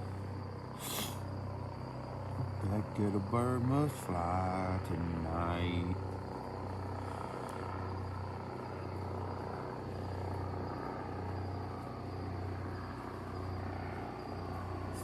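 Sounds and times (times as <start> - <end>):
crickets chirping: 0.0 - 15.0
helicopter rotor drone: 0.0 - 15.0.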